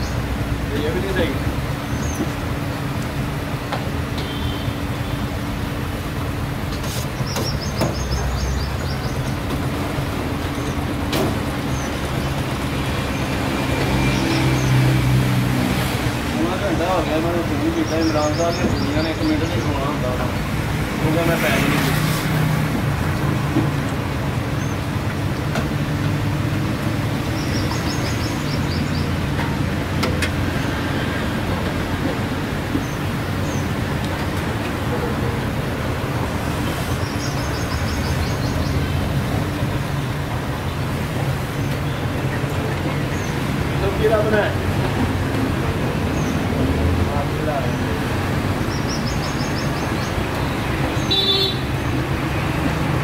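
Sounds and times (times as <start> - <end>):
street traffic: 0.0 - 53.0.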